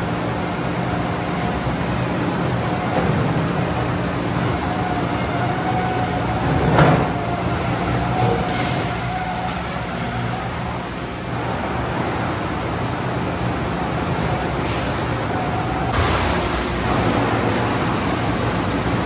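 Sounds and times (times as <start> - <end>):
faint conveyor whine: 0.0 - 19.0.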